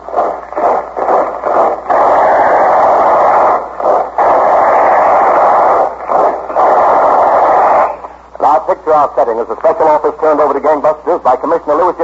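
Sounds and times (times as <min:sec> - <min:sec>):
rapid patter of short bursts: 0:00.0 - 0:12.0
steady roaring noise: 0:00.0 - 0:12.0.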